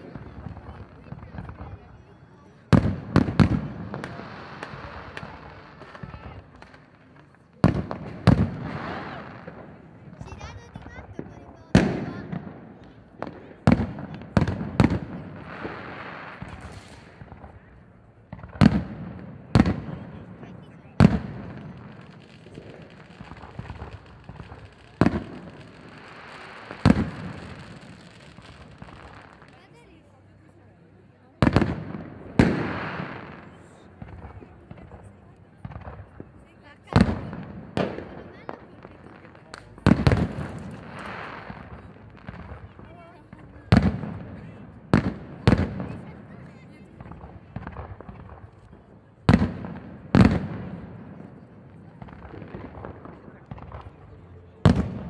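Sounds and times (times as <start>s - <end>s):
fireworks loud bangs: 0.0s - 29.9s, 31.3s - 48.6s, 49.2s - 55.0s
fireworks pops and crackling: 0.0s - 30.6s, 31.3s - 55.0s.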